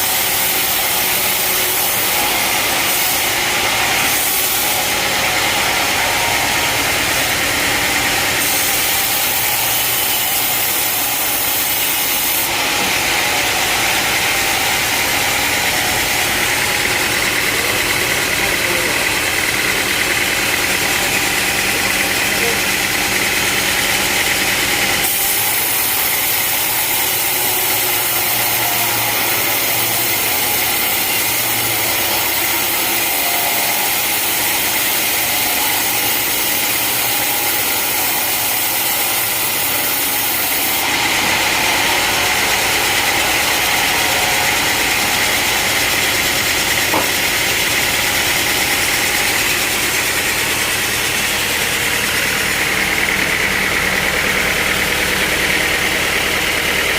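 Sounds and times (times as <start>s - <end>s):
saw cutting through log: 0.0s - 56.9s
sawmill engine running: 0.0s - 56.9s.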